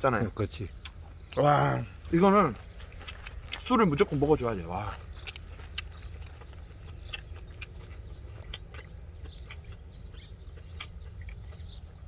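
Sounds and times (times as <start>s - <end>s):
crunchy chewing: 0.7s - 12.0s.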